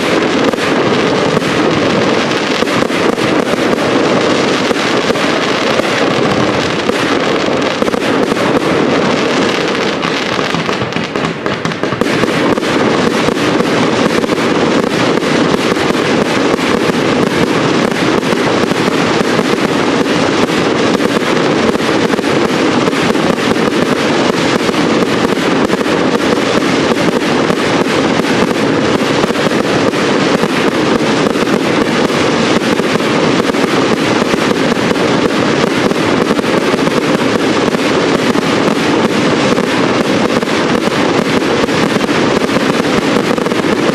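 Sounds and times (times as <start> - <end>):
fireworks bursting and crackling: 0.0 - 43.9.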